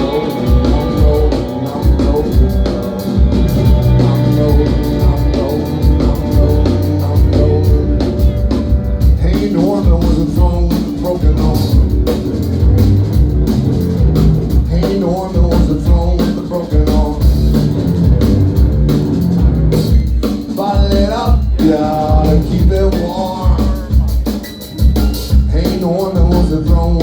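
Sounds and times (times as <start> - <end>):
drum beat: 0.0 - 27.0
heavy bass line: 0.0 - 27.0
live rock band playing: 0.0 - 27.0.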